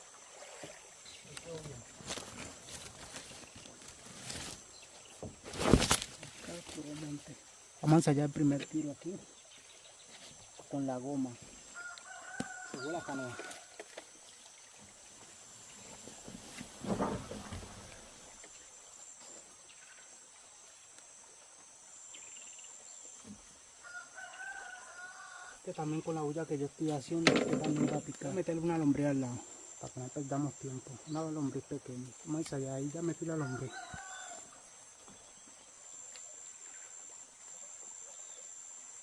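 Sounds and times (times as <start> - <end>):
faint rural ambience: 0.0 - 39.0
insects chirring: 0.0 - 39.0.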